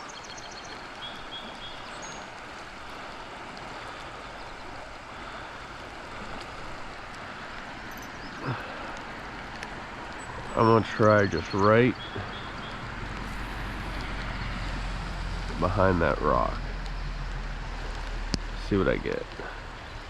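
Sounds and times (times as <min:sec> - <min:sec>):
falling rain: 0:00.0 - 0:20.0
flowing creek water: 0:00.0 - 0:20.0.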